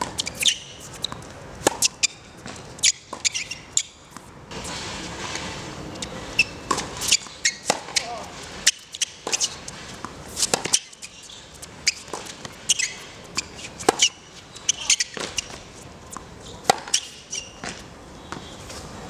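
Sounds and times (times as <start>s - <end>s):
tennis ball struck and bouncing: 0.0s - 4.3s, 6.4s - 18.5s
shoes squeaking on court: 0.0s - 19.0s.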